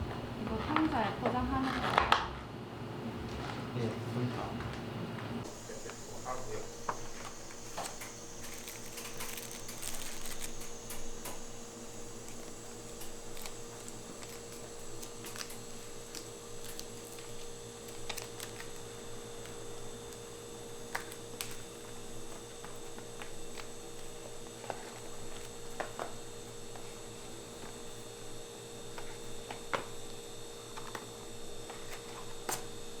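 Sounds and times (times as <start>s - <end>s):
electrical hum with high tone: 0.0s - 33.0s.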